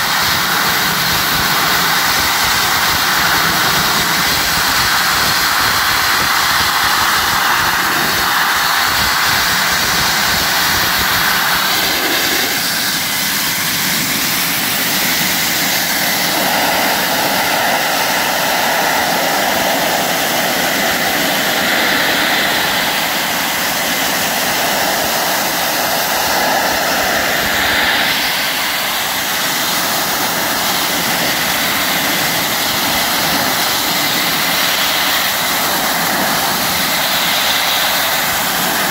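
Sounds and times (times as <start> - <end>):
wet abrasive blasting hiss: 0.0 - 38.9.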